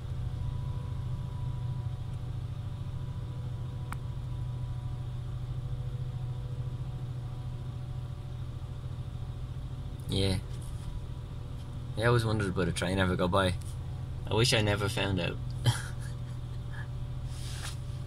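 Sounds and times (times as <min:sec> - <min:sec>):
car idling: 0:00.0 - 0:18.0
freight train rolling slowly: 0:00.0 - 0:18.0.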